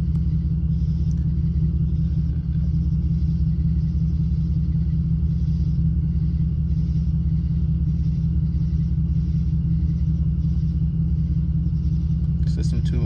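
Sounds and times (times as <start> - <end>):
car engine rumbling with misfire: 0.0 - 13.0.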